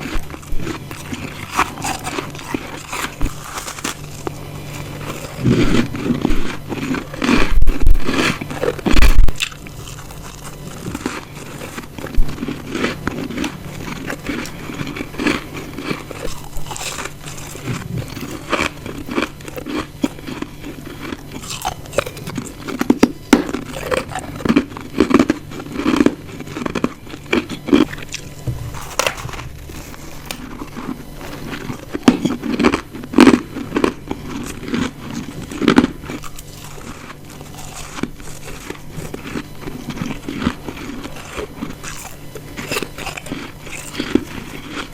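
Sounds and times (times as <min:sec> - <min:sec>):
ice chunks crunching when chewed: 0:00.0 - 0:44.9.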